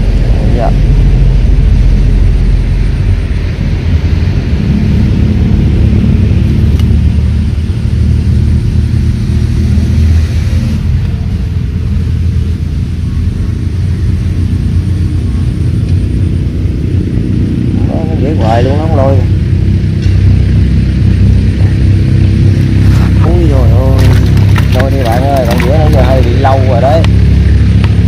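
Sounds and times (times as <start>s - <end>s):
loud low rumble: 0.0s - 28.0s.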